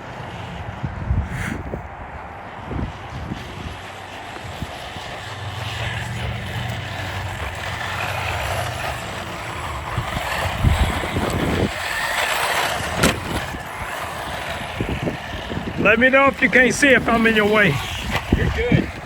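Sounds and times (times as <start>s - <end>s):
toy car motors whirring: 2.7s - 19.0s.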